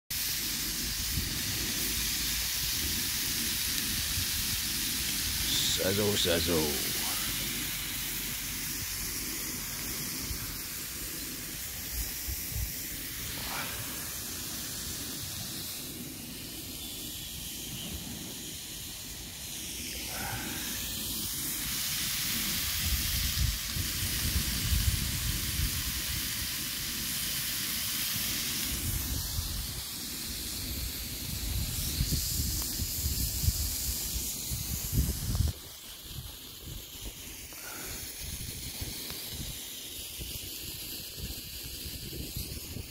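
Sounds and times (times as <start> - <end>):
steady hiss: 0.1 - 42.9
wind gusting on microphone: 0.8 - 16.8, 17.6 - 26.4, 28.6 - 37.3, 37.9 - 39.6.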